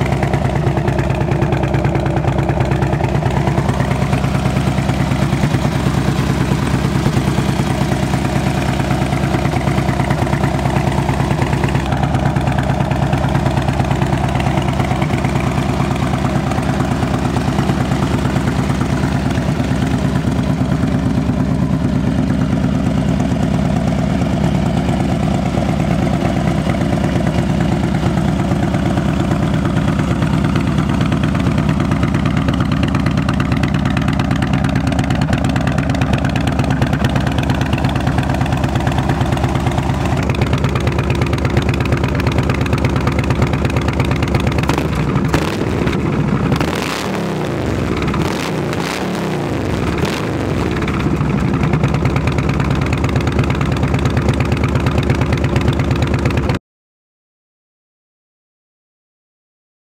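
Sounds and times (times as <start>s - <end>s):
motorcycle engine idling: 0.0s - 56.6s.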